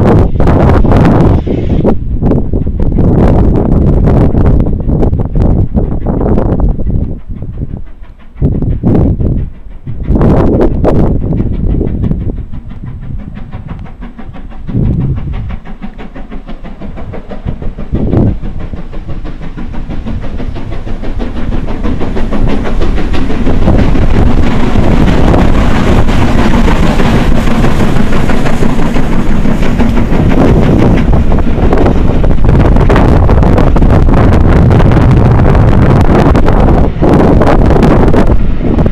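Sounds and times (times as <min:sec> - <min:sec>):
steam locomotive exhaust beats: 0:00.0 - 0:38.9
train wheel noise: 0:00.0 - 0:38.9.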